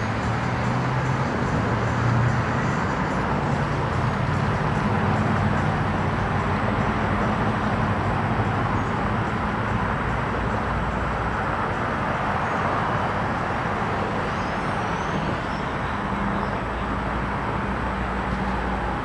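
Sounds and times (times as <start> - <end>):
engine hum: 0.0 - 19.0.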